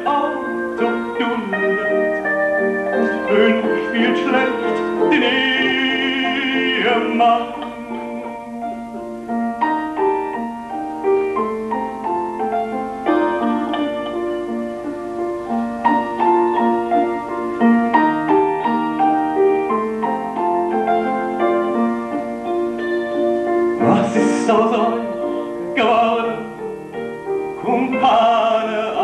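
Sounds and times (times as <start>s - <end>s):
piano playing: 0.0s - 29.0s.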